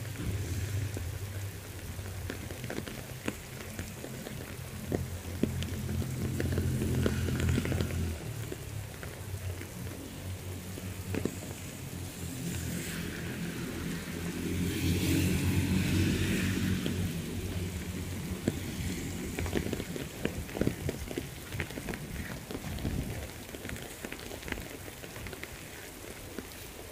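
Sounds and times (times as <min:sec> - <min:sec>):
heavy rain on foliage: 0:00.0 - 0:26.9
truck tyres hissing on wet road: 0:00.0 - 0:26.9
water dripping: 0:00.0 - 0:26.9.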